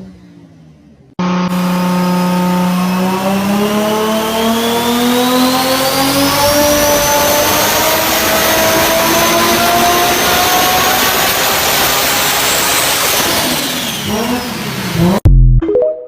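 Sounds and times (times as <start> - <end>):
car engine at high revs: 0.0 - 15.2.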